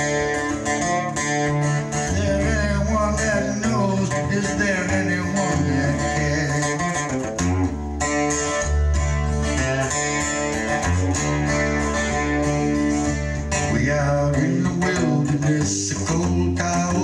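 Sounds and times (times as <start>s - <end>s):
music with heavy bass line: 0.0s - 17.0s.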